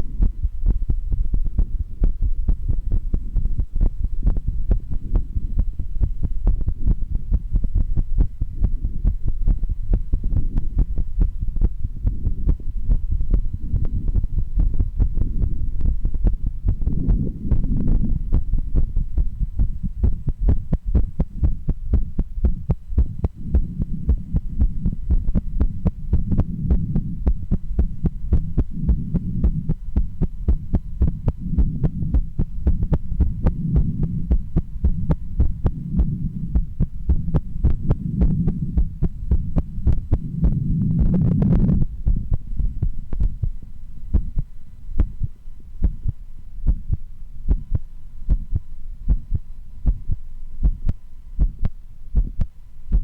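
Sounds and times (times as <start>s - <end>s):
heartbeat through a stethoscope: 0.0s - 53.0s
low rumble: 0.0s - 53.0s.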